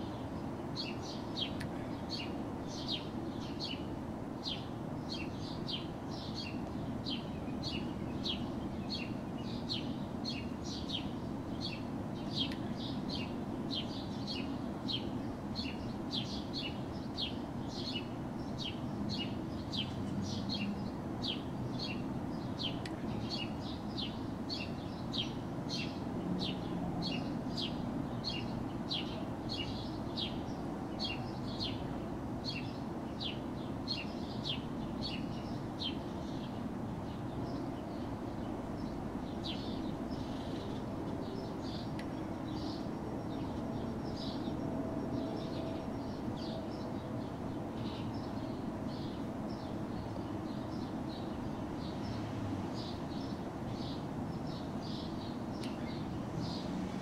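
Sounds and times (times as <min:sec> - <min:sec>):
bird chirping: 0:00.0 - 0:56.8
distant city traffic rumble: 0:00.0 - 0:57.0.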